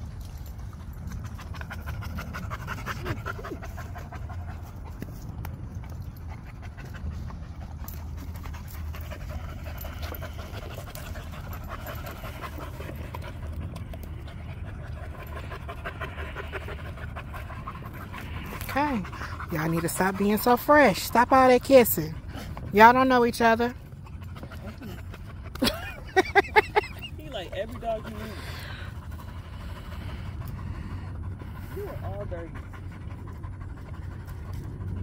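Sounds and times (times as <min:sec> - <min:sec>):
dogs panting: 0:00.0 - 0:35.0.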